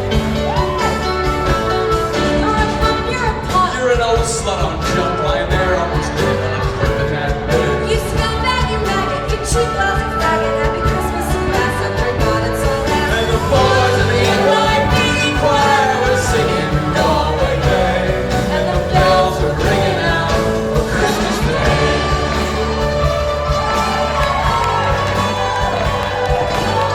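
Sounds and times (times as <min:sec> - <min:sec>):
live rock band playing: 0:00.0 - 0:26.9
person singing: 0:00.4 - 0:26.9.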